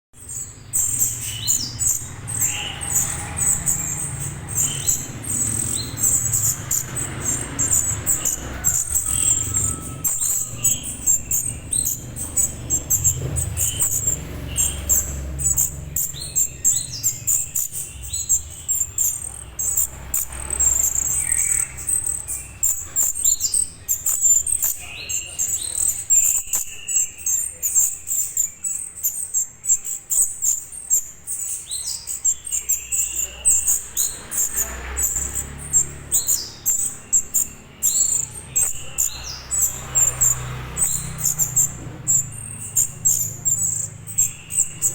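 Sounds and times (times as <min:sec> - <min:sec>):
bird calling with descending notes: 0:00.3 - 0:44.9.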